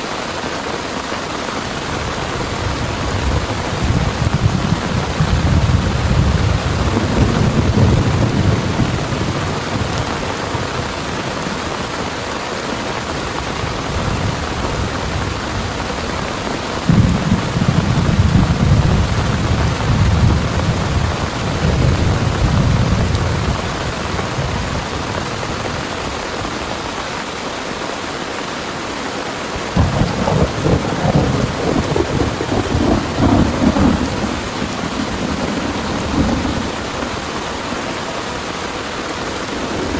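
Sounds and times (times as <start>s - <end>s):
heavy rain pouring: 0.0s - 39.9s
thunder rumbling: 1.7s - 25.9s, 29.7s - 37.8s.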